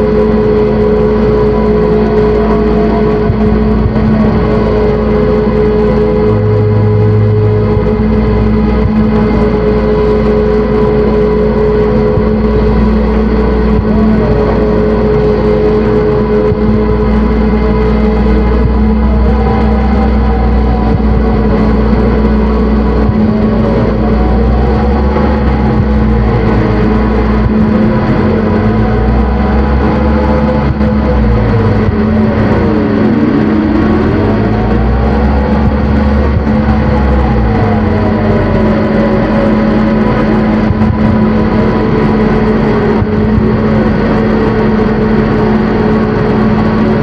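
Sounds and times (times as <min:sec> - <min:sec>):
deep bass hum: 0:00.0 - 0:47.0
grainy noise texture: 0:00.0 - 0:47.0
synthesizer drone: 0:00.0 - 0:47.0.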